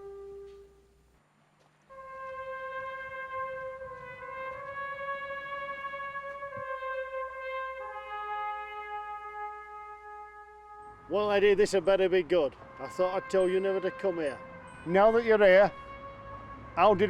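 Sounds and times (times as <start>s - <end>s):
brass instrument holding long notes: 0.0s - 0.8s, 1.9s - 17.0s.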